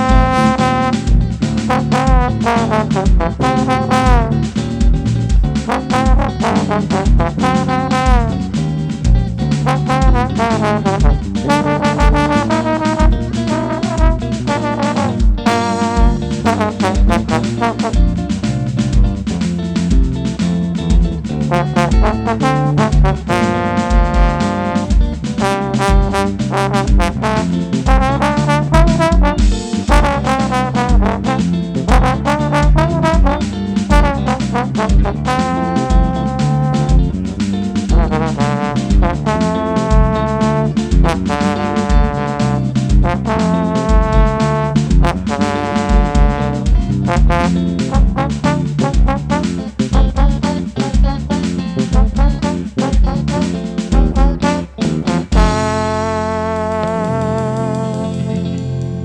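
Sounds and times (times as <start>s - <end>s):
trombone melody: 0.0s - 4.6s, 5.6s - 8.6s, 9.6s - 18.3s, 21.4s - 58.4s
kick drum beat: 0.0s - 55.8s
brass band playing upbeat tune: 0.0s - 58.5s
bass: 0.0s - 59.0s.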